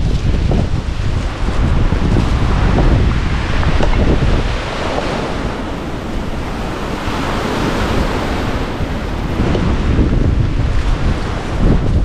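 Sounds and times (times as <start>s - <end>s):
surf washing ashore: 0.0s - 12.0s
wind buffeting microphone: 0.0s - 12.0s.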